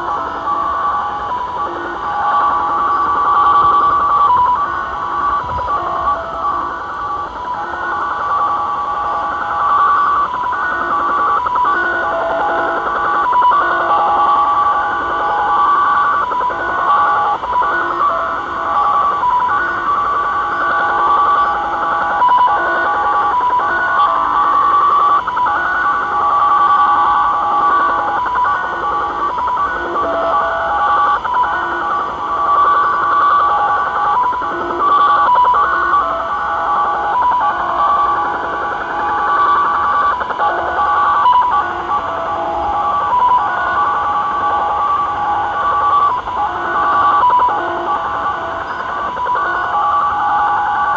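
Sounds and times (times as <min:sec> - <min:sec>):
warbling multi-tone radio signal: 0:00.0 - 0:50.9.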